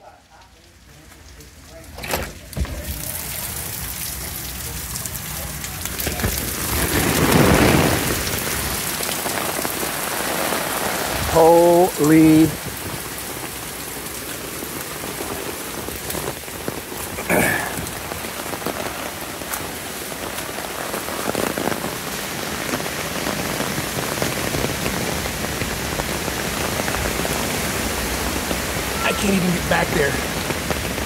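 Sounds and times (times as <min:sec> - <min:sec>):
heavy rain on leaves: 0:00.0 - 0:31.0.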